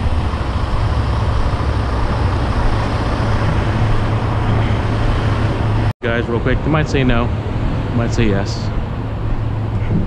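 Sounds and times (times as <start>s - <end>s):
loud machinery drone: 0.0s - 10.0s.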